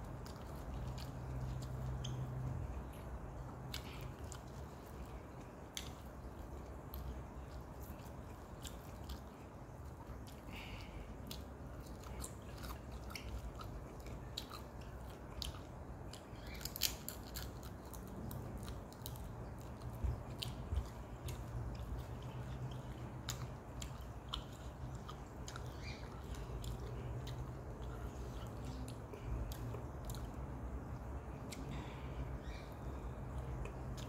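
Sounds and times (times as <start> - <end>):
low steady hum: 0.0 - 34.0
person chewing food: 0.0 - 34.0.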